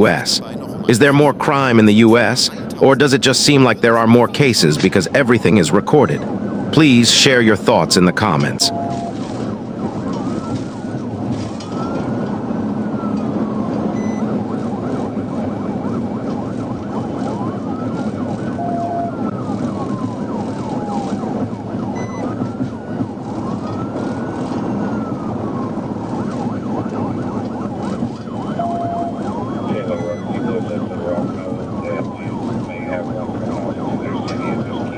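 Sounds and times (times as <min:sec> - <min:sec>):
engine and road noise: 0:00.0 - 0:34.9
police siren wailing: 0:00.0 - 0:34.9.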